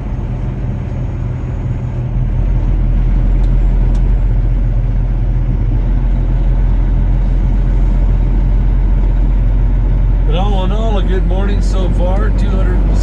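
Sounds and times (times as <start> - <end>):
engine and road noise in vehicle: 0.0 - 13.0.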